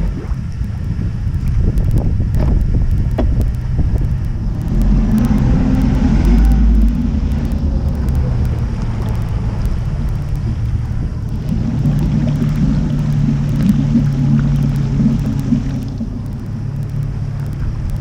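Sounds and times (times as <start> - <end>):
boat engine rumbling: 0.0 - 18.0
wind buffeting microphone: 0.0 - 18.0.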